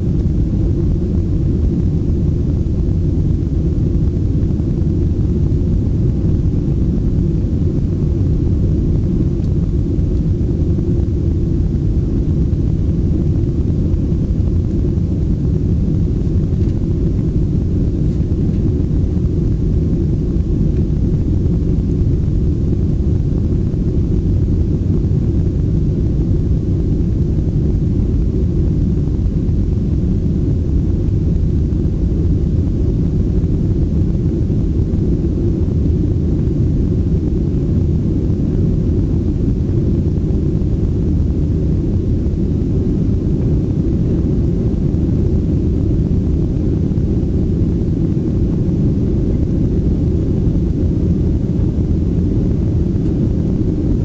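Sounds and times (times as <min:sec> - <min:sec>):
jet engine and airflow rumble: 0:00.0 - 0:54.0.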